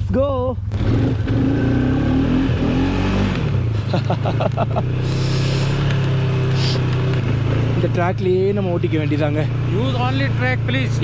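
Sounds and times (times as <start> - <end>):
atv engine revving and idling: 0.0 - 11.0.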